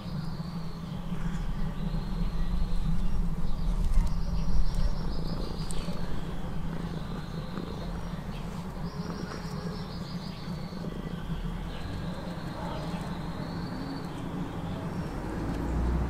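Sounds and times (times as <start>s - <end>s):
low steady rumble: 0.0s - 16.0s
songbird trill: 0.0s - 16.0s.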